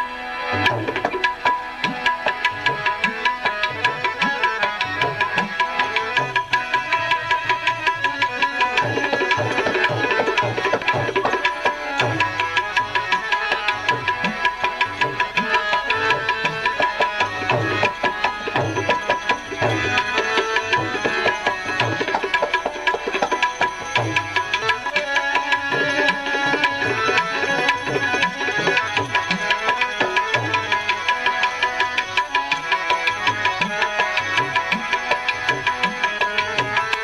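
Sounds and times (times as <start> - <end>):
tabla playing fast rhythm: 0.0 - 37.0.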